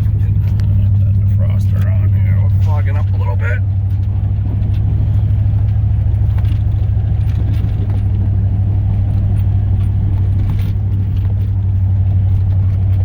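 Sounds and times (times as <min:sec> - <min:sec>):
truck engine droning: 0:00.0 - 0:13.0
truck rattling clicks and jingles: 0:00.0 - 0:13.0.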